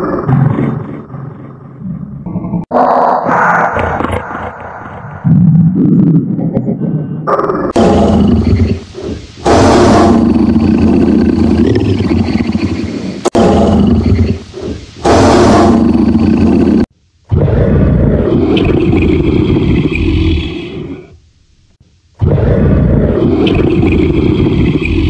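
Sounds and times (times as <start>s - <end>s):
tiger roaring: 2.7s - 6.1s, 7.2s - 21.2s, 22.2s - 25.0s.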